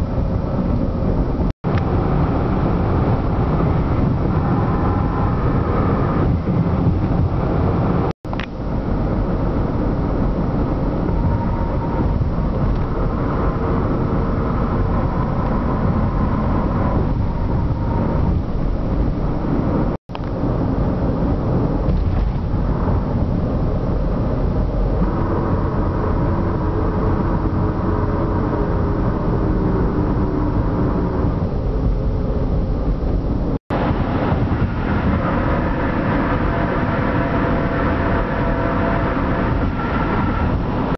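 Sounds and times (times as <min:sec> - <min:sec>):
car tyres rumbling on concrete: 0:00.0 - 0:40.9.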